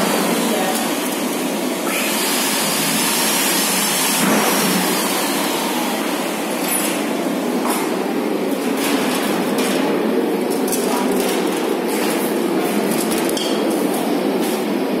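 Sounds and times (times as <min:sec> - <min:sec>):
steady machine noise: 0:00.0 - 0:15.0.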